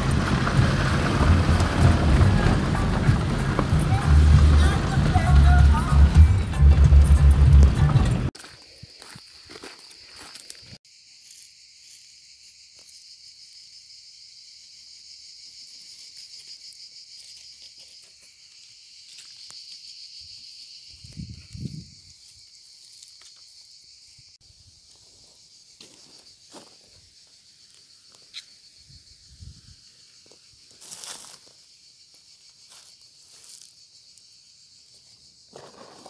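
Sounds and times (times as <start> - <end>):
cicadas buzzing: 0.0 - 36.0.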